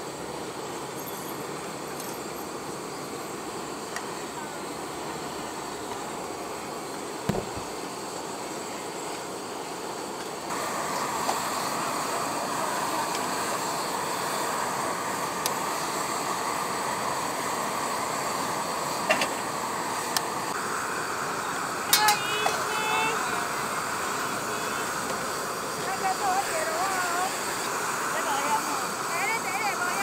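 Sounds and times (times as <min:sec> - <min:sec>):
gas burners roaring: 0:00.0 - 0:30.0.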